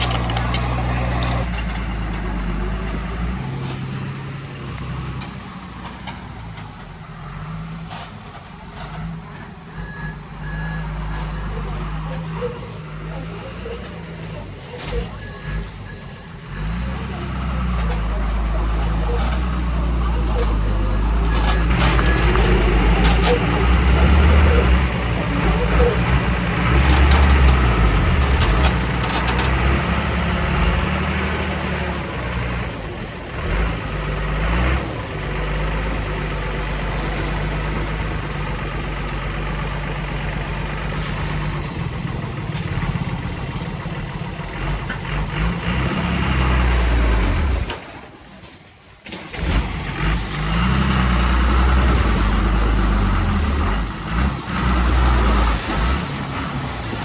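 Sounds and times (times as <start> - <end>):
heavy machinery diesel engine running: 0.0 - 13.2, 13.9 - 48.5, 49.1 - 57.0.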